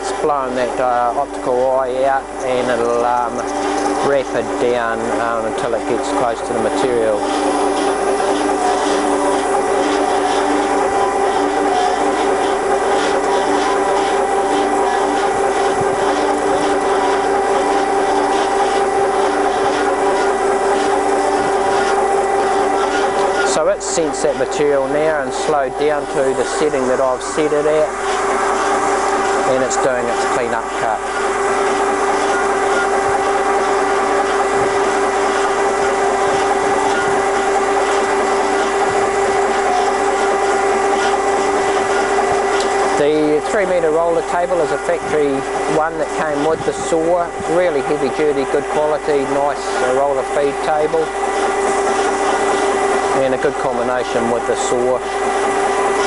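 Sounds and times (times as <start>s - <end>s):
bandsaw humming: 0.0s - 56.0s.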